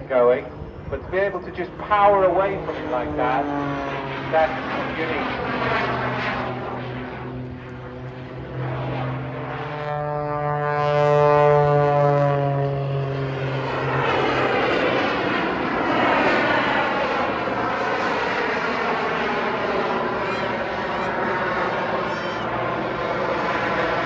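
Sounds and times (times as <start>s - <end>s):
propeller aircraft engine: 0.0s - 24.0s.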